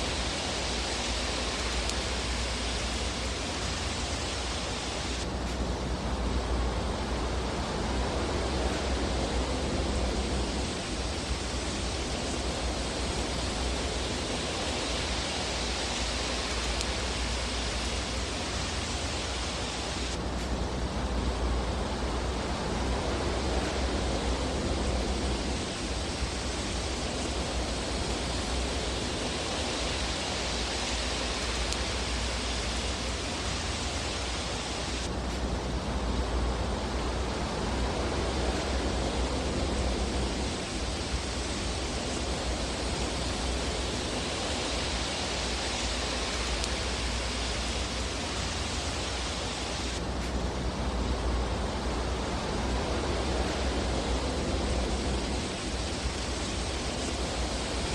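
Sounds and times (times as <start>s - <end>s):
fire burning in fireplace: 0.0s - 57.9s.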